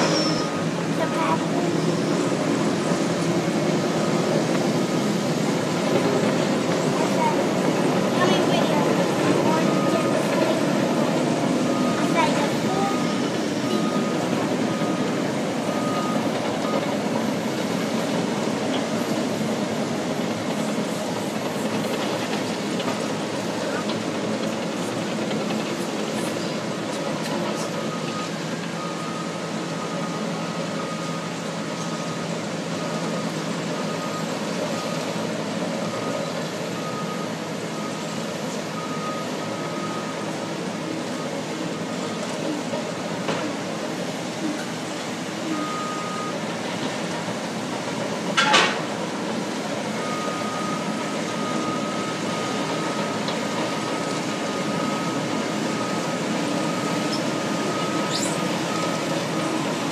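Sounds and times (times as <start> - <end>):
diesel bulldozers running: 0.0 - 59.9.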